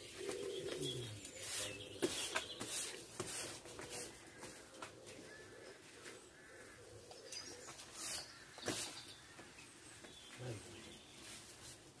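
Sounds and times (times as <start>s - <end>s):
rustling foliage: 0.0s - 12.0s.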